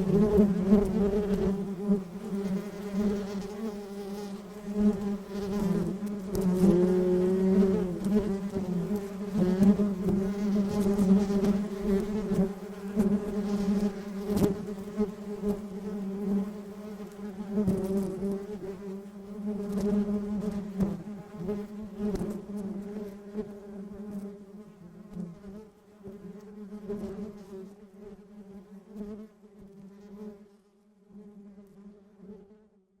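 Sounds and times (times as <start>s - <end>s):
honeybees buzzing: 0.0s - 27.5s.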